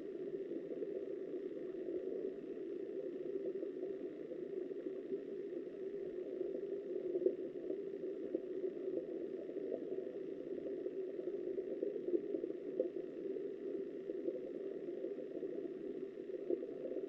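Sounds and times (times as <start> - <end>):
muffled underwater river rushing: 0.0 - 17.0.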